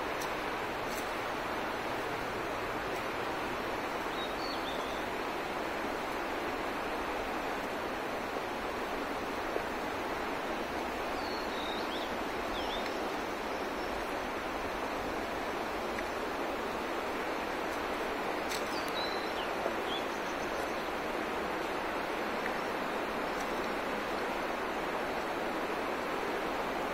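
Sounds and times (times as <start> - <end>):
river rushing: 0.0 - 26.9.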